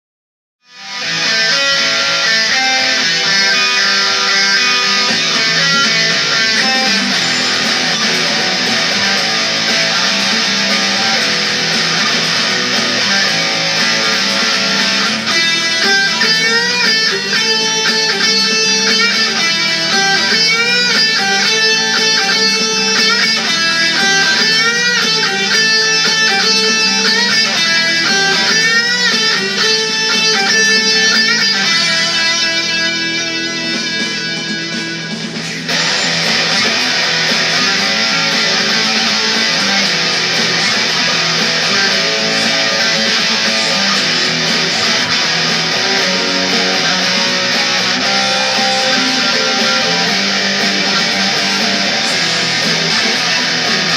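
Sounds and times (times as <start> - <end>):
electric guitar rock song: 0.6 - 53.9
full band accompaniment: 4.4 - 53.9.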